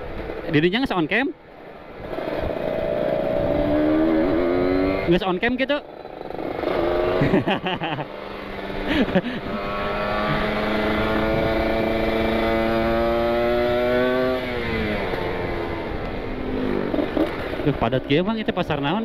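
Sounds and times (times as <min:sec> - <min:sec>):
two-stroke motorcycle engine: 0:01.7 - 0:19.0.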